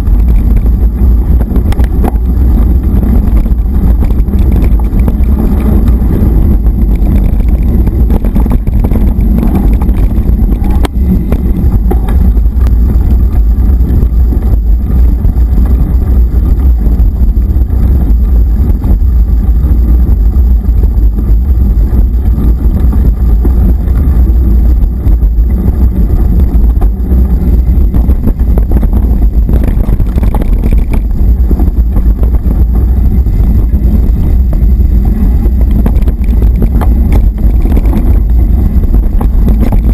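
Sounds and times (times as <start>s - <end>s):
bike rolling over gravel trail: 0.0s - 39.9s
wind rumble on microphone: 0.0s - 39.9s.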